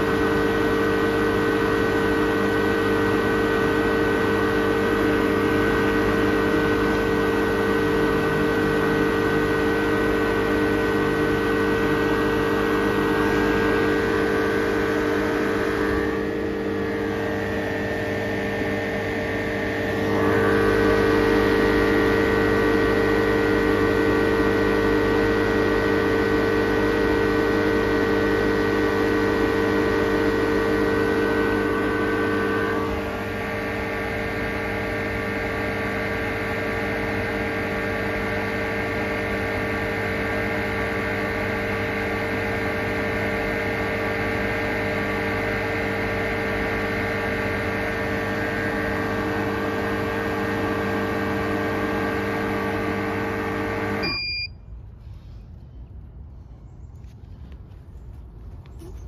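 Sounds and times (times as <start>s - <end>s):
machine motor and compressor hum: 0.0s - 59.0s.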